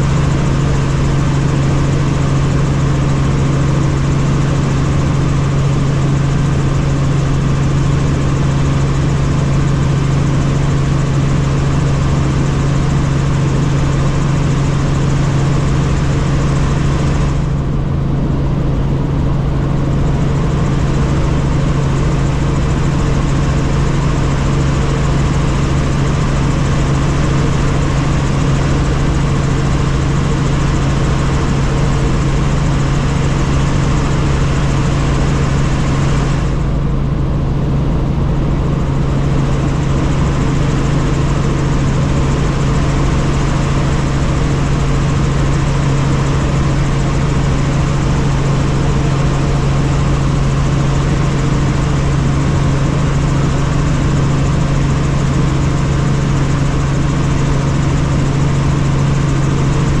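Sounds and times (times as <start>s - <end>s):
helicopter engine and rotor drone: 0.0s - 60.0s.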